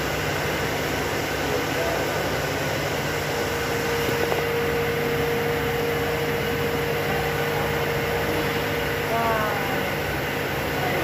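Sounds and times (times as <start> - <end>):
mechanical hum with tone: 0.0 - 11.0.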